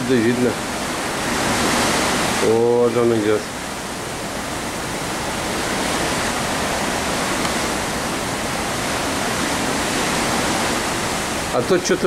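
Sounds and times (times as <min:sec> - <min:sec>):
wind and sea rushing: 0:00.0 - 0:12.0.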